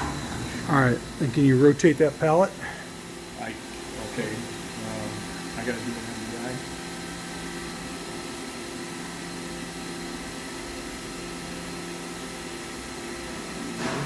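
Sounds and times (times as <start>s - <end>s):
machine humming with tones: 0.0s - 14.0s.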